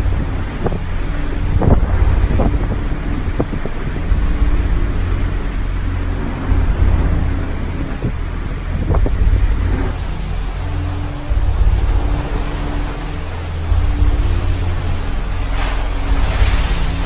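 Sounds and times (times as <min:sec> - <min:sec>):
deep ship rumble with low hum: 0:00.0 - 0:17.0.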